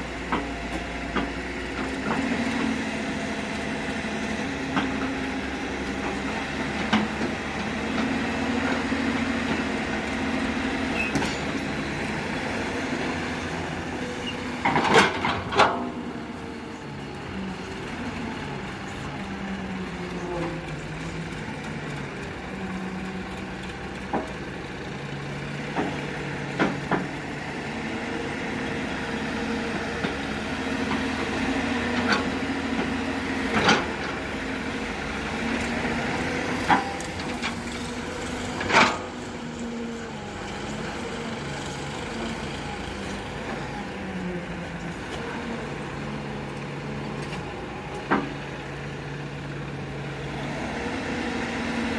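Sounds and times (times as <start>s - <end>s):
excavator diesel engine working: 0.0s - 51.9s.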